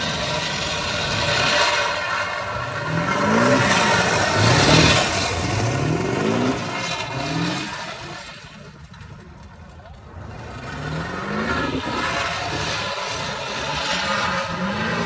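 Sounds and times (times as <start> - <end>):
diesel pickup engine revving: 0.0 - 8.6, 10.0 - 15.0
tires spinning on pavement: 0.0 - 15.0.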